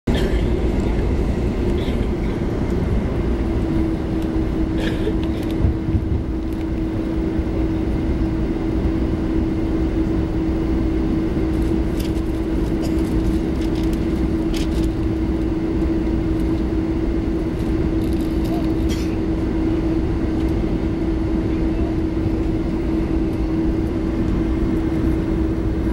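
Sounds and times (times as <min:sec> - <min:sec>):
aircraft engine hum: 0:00.0 - 0:25.9.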